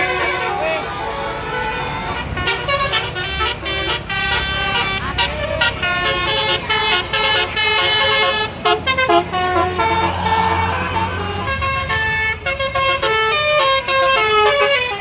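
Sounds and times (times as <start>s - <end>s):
bus engine rumbling: 0.0s - 15.0s
bus horn playing a tune: 0.0s - 15.0s.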